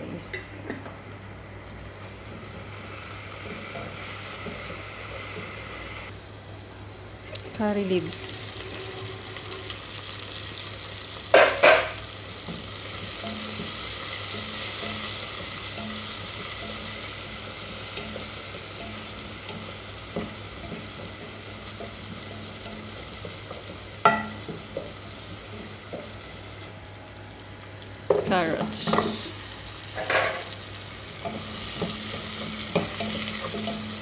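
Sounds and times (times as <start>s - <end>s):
onion sizzling in oil: 0.0s - 34.0s.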